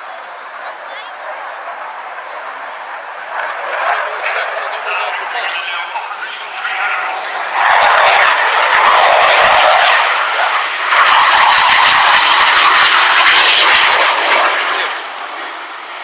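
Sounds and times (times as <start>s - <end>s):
military aircraft roaring overhead: 0.0s - 16.0s.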